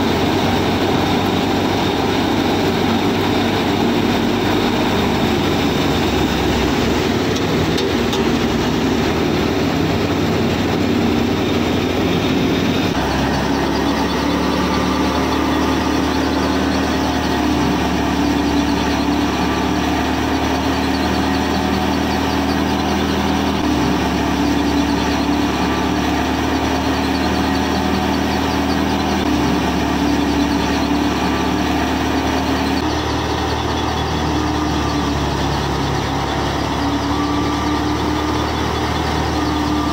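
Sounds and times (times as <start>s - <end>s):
model thresher mechanical hum: 0.0s - 39.9s.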